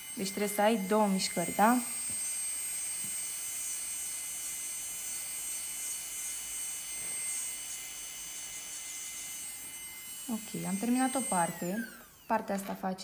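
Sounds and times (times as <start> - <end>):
electric nail drill whining: 0.0 - 13.0.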